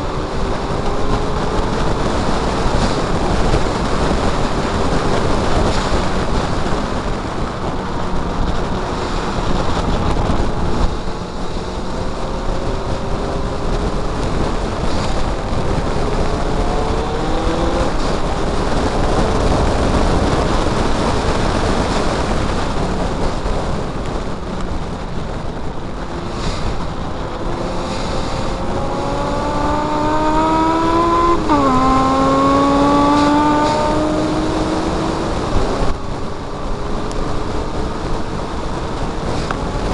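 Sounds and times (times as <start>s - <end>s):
car engine running hard: 0.0s - 39.9s
wind and road noise: 0.0s - 39.9s.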